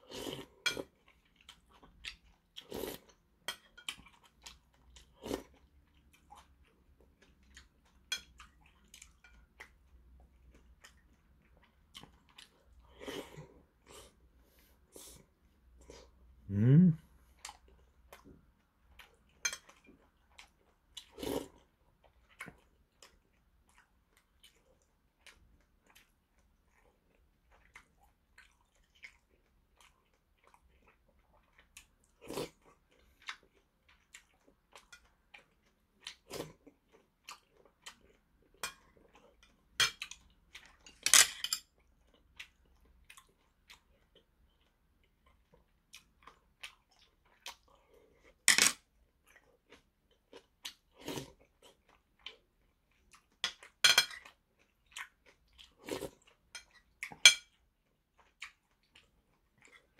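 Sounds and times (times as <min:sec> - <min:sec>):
chewing and slurping soup: 0:00.0 - 0:16.4, 0:17.1 - 0:59.9.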